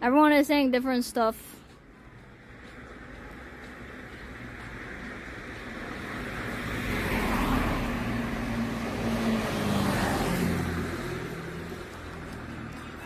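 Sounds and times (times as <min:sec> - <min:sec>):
vehicles driving past: 0:01.0 - 0:13.0.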